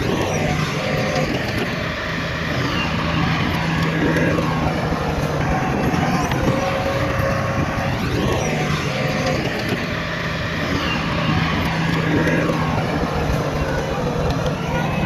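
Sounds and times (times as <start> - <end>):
heavy diesel engines droning: 0.0 - 15.0.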